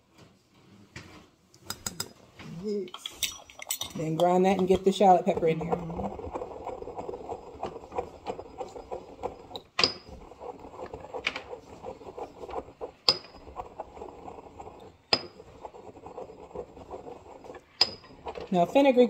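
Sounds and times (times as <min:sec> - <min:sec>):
pestle clinking against bowl: 0:03.1 - 0:18.9
pestle grinding in mortar: 0:03.2 - 0:19.0.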